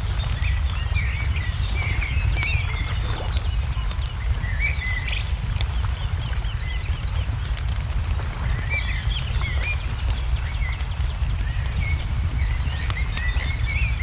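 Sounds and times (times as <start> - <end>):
low rumble: 0.0 - 14.0
wood fire crackling: 0.0 - 14.0.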